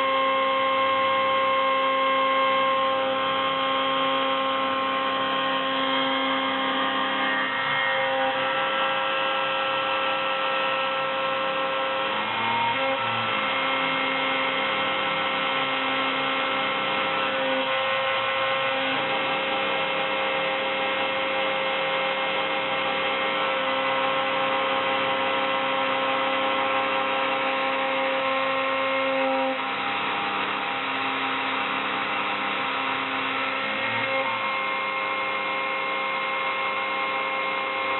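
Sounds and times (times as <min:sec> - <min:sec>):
cnc mill motors humming: 0:00.0 - 0:37.9.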